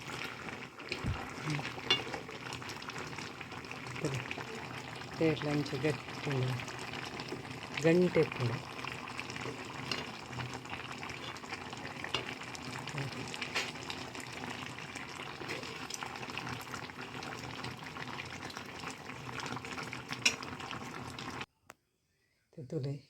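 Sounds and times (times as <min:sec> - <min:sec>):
curry bubbling in a pot: 0:00.0 - 0:21.5.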